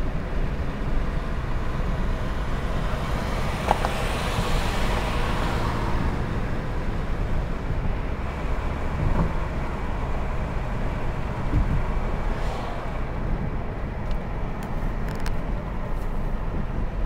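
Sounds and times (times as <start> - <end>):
car engine hum: 0.0 - 17.0
tyre and road noise: 0.0 - 17.0.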